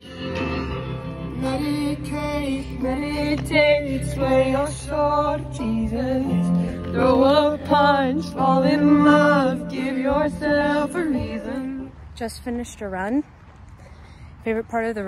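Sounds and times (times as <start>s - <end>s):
song with vocals: 0.0s - 12.1s.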